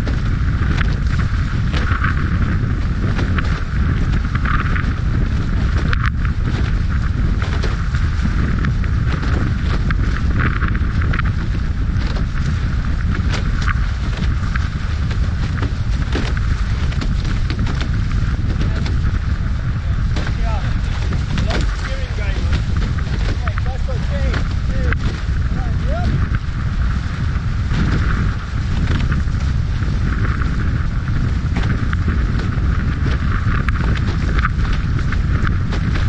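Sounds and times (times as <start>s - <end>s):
wind buffeting microphone: 0.0s - 36.0s
spray splashing from hulls: 4.8s - 36.0s.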